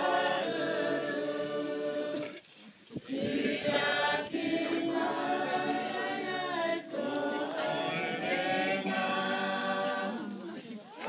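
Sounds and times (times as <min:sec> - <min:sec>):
group singing a hymn unaccompanied: 0:00.0 - 0:11.0.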